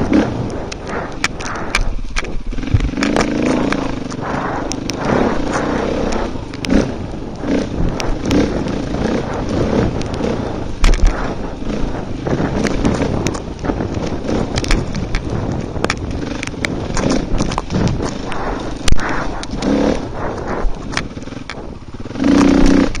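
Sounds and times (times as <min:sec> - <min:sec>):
bike knocking and clattering: 0:00.0 - 0:23.0
motorcycle engine revving: 0:00.0 - 0:23.0.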